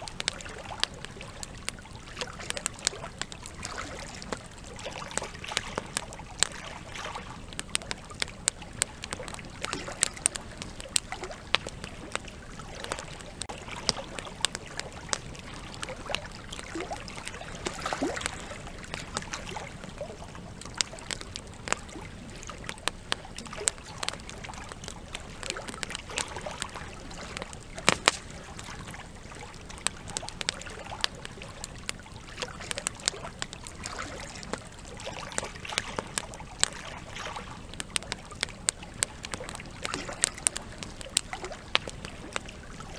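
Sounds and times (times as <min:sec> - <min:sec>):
campfire crackling and popping: 0:00.0 - 0:42.9
flowing river water: 0:00.0 - 0:42.9.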